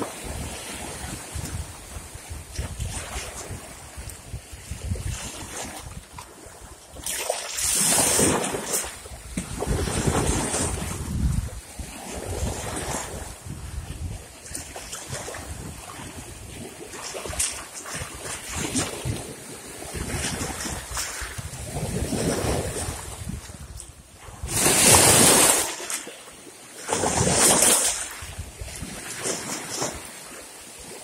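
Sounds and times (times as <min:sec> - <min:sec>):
small waves splashing on rocks: 0:00.0 - 0:13.5, 0:14.4 - 0:31.0.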